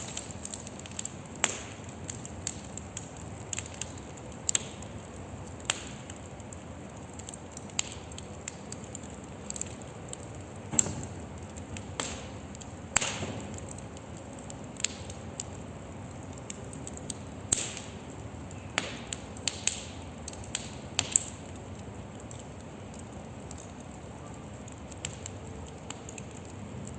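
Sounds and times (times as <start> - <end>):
burning wood popping and cracking: 0.0 - 26.9
fire hissing: 0.0 - 26.9.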